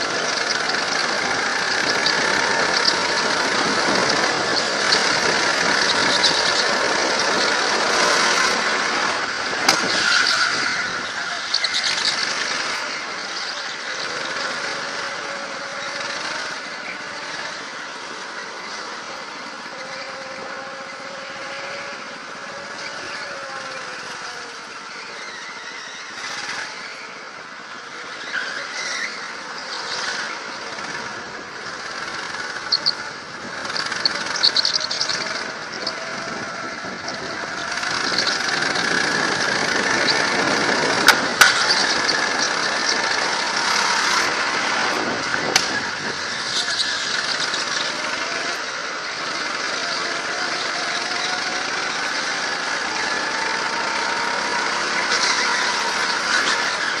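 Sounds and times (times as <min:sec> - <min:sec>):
go-kart engine running: 0:00.0 - 0:57.0
tyres squealing: 0:00.0 - 0:57.0.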